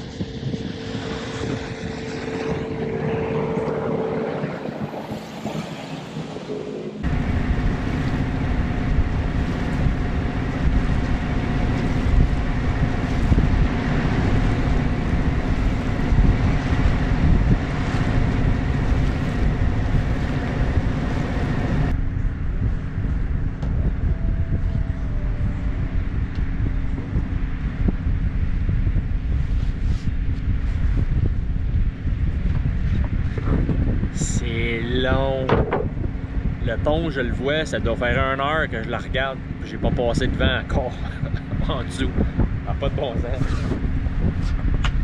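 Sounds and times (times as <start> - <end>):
boat engine running: 0.0 - 45.0
deep engine rumble: 0.0 - 45.0
wind on microphone: 0.0 - 45.0.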